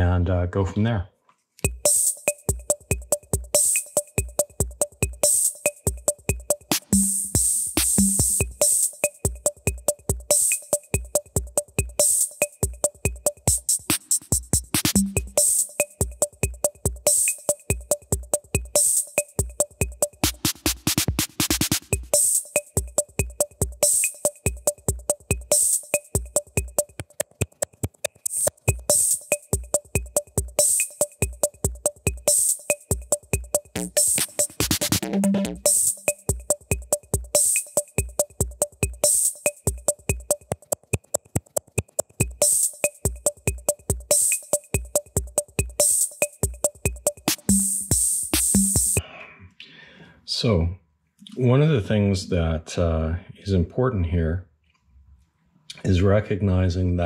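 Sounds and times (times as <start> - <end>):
drum machine electronic beat: 1.6 - 49.0.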